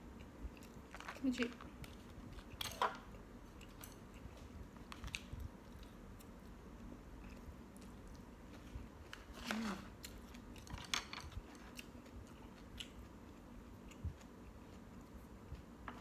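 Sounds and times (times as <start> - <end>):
person chewing and crunching food: 0.0 - 15.8.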